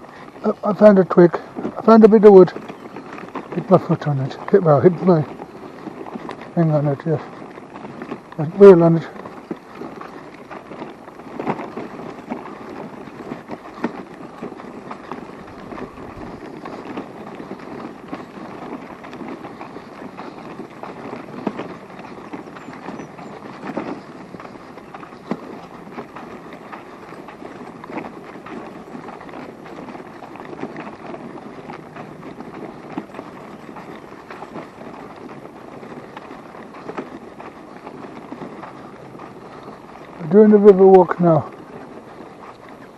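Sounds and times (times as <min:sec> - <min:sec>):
crunching footsteps on path: 0:00.0 - 0:42.9
rolling wheel clicks: 0:00.0 - 0:42.9.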